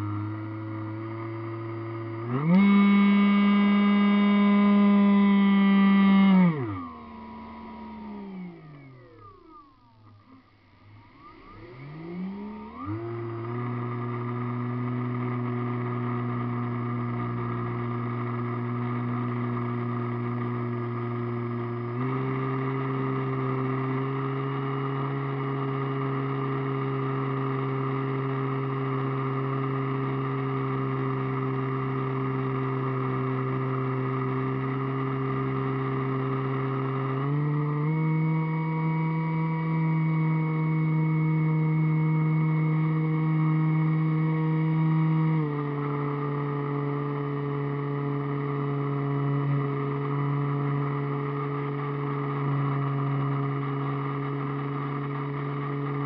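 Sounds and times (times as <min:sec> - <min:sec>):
model airplane motor and propeller: 0:00.0 - 0:56.0.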